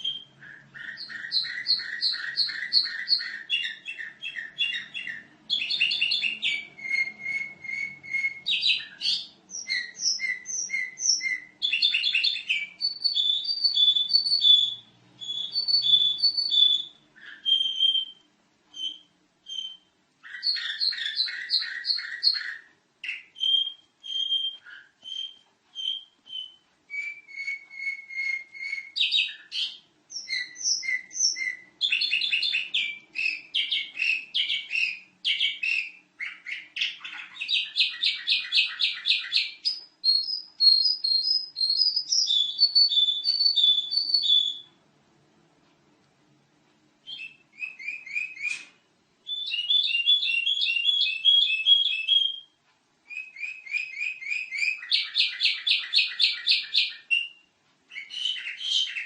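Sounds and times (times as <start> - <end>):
canary singing: 0.0 - 44.8, 46.9 - 59.0.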